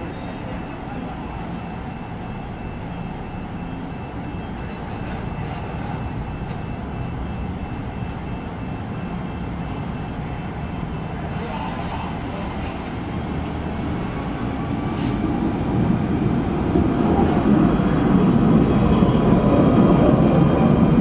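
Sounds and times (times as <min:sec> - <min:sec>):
tram rumbling and hissing: 0:00.0 - 0:21.0.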